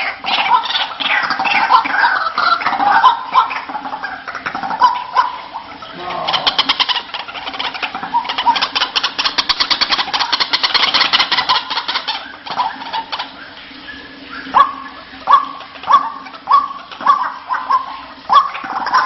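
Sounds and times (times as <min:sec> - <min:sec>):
faint steady hum: 0:00.0 - 0:19.0
rising bird calls: 0:00.0 - 0:19.0
waterhen chattering calls: 0:00.0 - 0:19.0.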